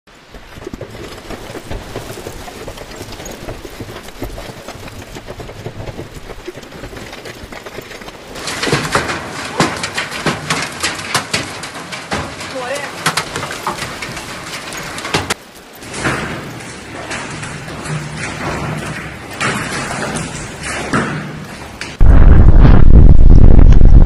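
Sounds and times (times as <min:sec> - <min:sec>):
hail pelting a car: 0:00.8 - 0:22.0
sharp cracks of large hail: 0:01.0 - 0:22.0.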